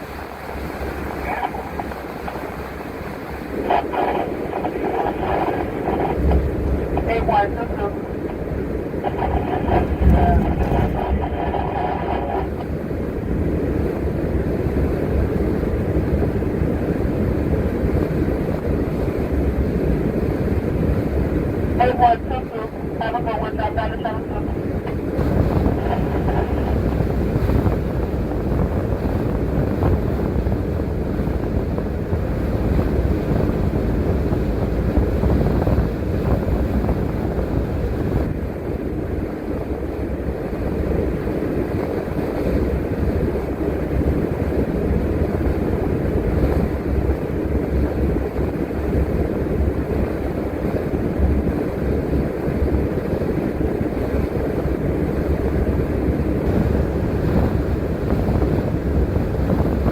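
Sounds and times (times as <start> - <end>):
bus interior rumble: 0.0 - 59.9.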